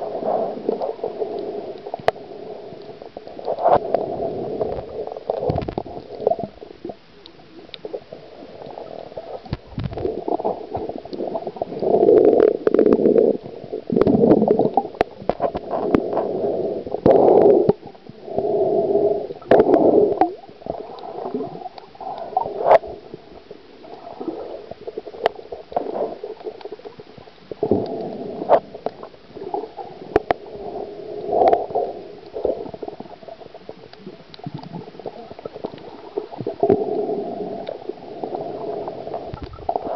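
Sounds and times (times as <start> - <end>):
muffled underwater bubbles gurgling: 0.0 - 39.9.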